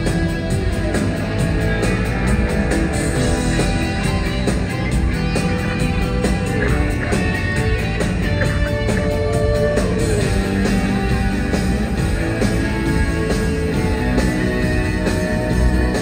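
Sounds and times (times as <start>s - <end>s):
electric guitar: 0.0s - 16.0s.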